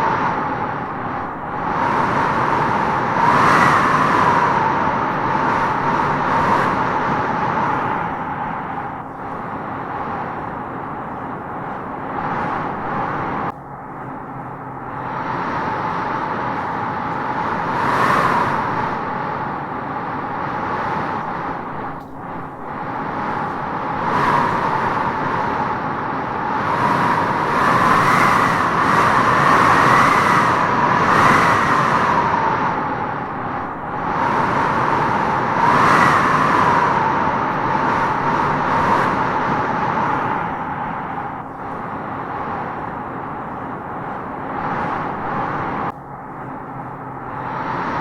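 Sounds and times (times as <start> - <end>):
strong wind howling through trees: 0.0 - 48.0.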